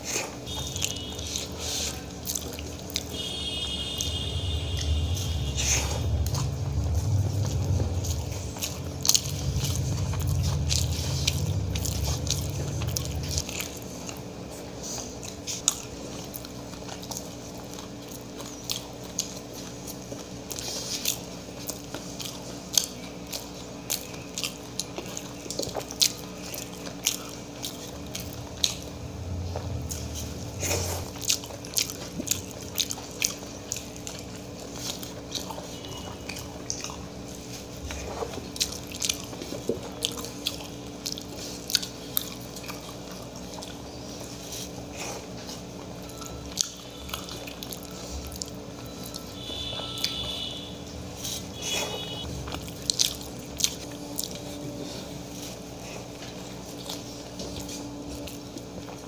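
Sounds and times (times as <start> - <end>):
person chewing with wet smacks: 0.0 - 59.0.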